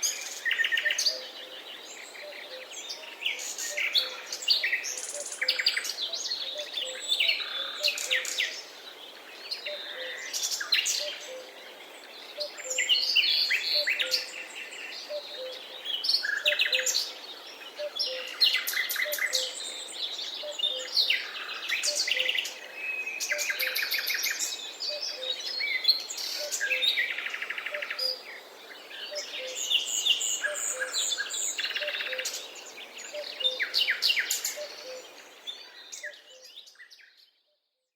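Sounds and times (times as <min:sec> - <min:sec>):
steady background hiss: 0:00.0 - 0:36.1
songbirds singing and chirping: 0:00.0 - 0:37.9.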